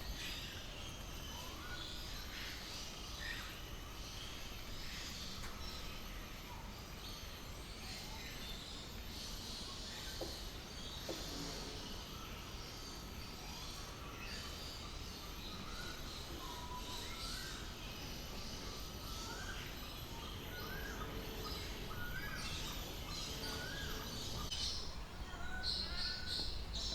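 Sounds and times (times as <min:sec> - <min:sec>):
bird calls and chirps: 0:00.0 - 0:26.9
low background noise: 0:00.0 - 0:26.9.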